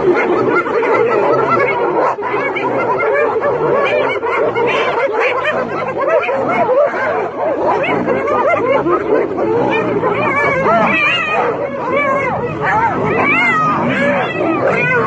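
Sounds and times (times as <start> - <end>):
hyenas giggling and yelping: 0.0 - 15.0.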